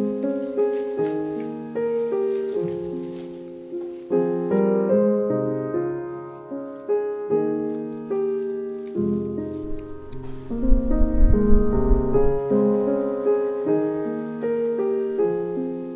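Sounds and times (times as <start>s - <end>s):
slow piano music: 0.0s - 15.9s.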